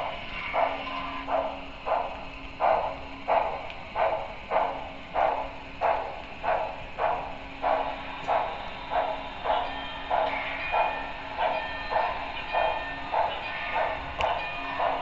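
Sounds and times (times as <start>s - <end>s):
model train steam chuffing: 0.0s - 15.0s.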